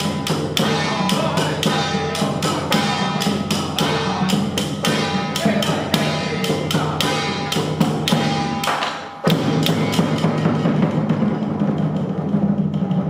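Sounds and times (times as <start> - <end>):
drums: 0.0 - 13.0
ringing metal percussion: 0.0 - 13.0.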